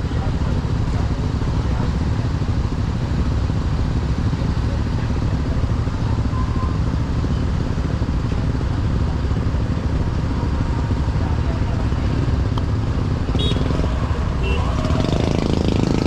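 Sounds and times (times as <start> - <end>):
motorcycle engine running: 0.0 - 16.0
street traffic rushing: 0.0 - 16.0.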